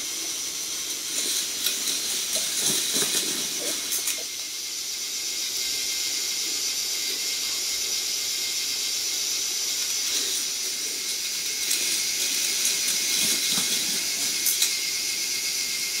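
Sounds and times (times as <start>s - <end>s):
toy motor whirring: 0.0s - 16.0s.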